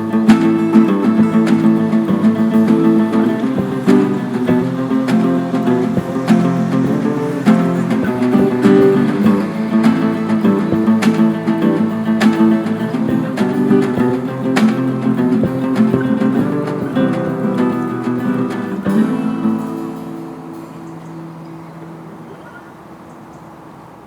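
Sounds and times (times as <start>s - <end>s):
band playing instrumental: 0.0s - 21.4s
strummed acoustic guitar: 0.0s - 23.0s.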